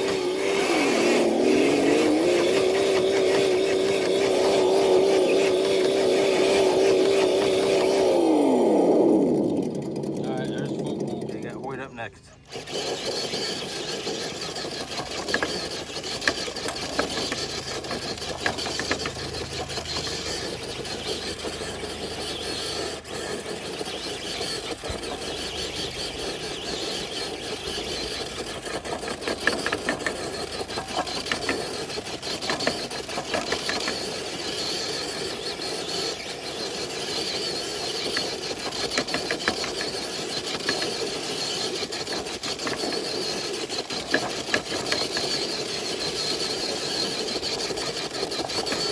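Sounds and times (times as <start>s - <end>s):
electric motor whine: 0.0s - 48.9s
drivetrain clicks and crackles: 9.7s - 48.9s.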